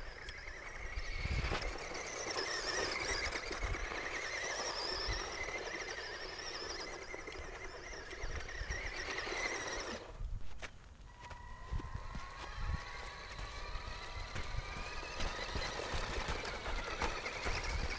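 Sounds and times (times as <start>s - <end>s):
rc car motor whine: 0.0s - 10.2s, 11.1s - 17.9s
tyres crunching dirt: 0.0s - 17.9s.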